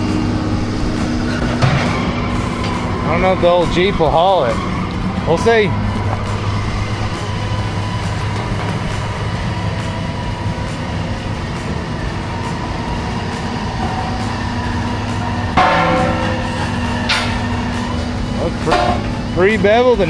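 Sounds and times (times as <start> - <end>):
loud steady pitched tones: 0.0 - 20.0
vehicle engine rumbling: 0.0 - 20.0.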